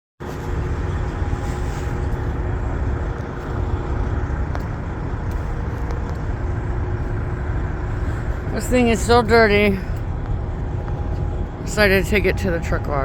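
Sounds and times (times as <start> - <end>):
diesel truck engine running: 0.2 - 13.0.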